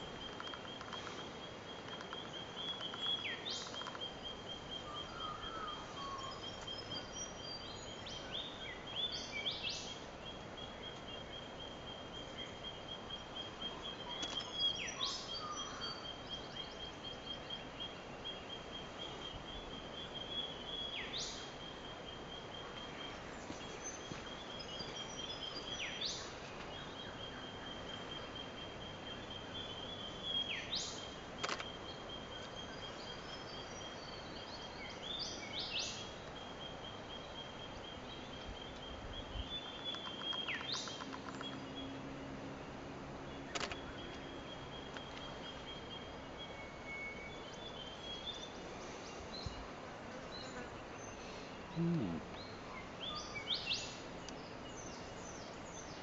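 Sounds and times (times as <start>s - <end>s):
faint outdoor hiss: 0.0s - 56.0s.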